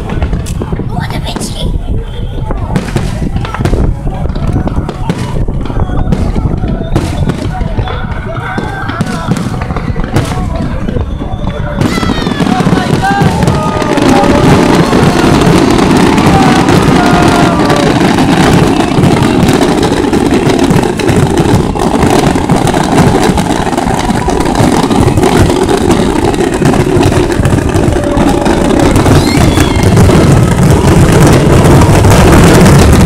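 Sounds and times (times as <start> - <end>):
fireworks crackling and banging: 0.0 - 33.0
fireworks whistles: 4.6 - 33.0.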